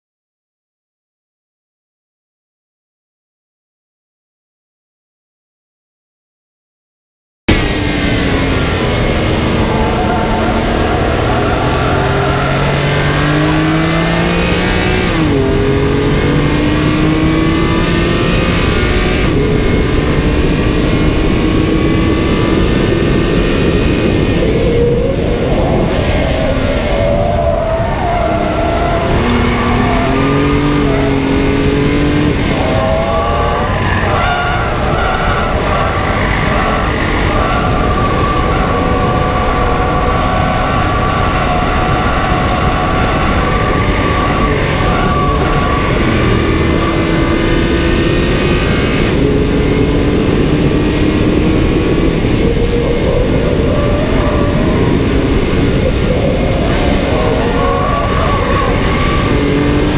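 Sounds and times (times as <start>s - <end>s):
car engine accelerating: 7.5s - 59.9s
wind and tyre noise: 7.5s - 59.9s.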